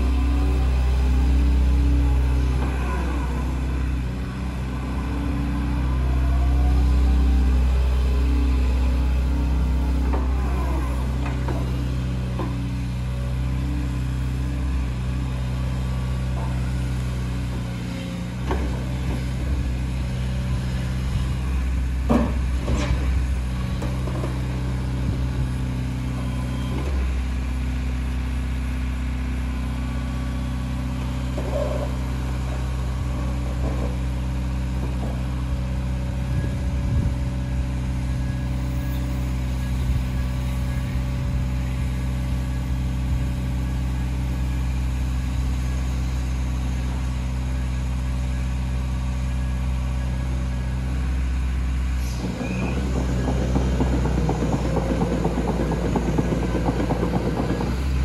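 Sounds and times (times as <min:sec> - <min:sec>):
diesel excavator engine running: 0:00.0 - 0:58.0
hydraulic boom and bucket working: 0:00.0 - 0:58.0.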